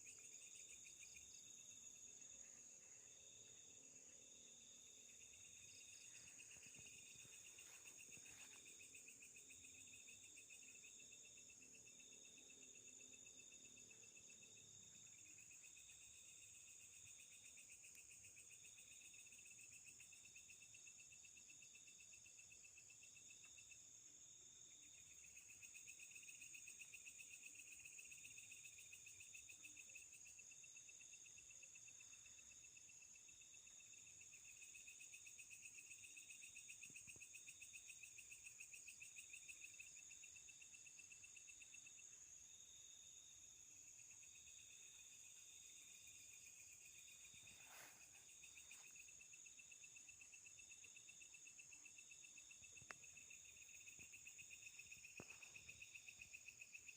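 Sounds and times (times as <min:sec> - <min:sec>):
insect trill: 0:00.0 - 0:56.9
insects high-pitched whine: 0:00.0 - 0:56.9
low pulsing insect trill: 0:00.0 - 0:56.9.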